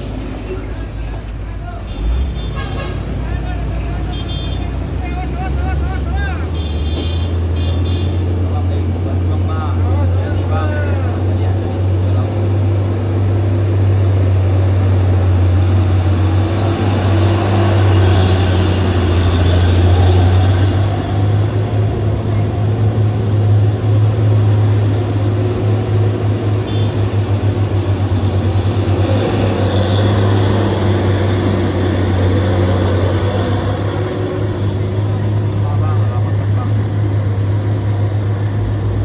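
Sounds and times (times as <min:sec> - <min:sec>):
diesel truck engine drone: 0:00.0 - 0:39.0.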